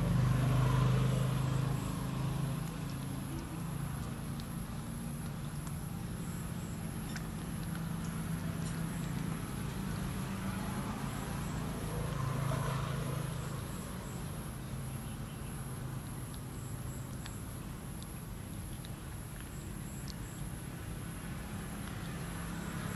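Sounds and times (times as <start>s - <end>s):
low engine hum: 0.0s - 22.9s
monkey chewing clicks: 0.0s - 22.9s
insect chirps: 0.1s - 22.9s.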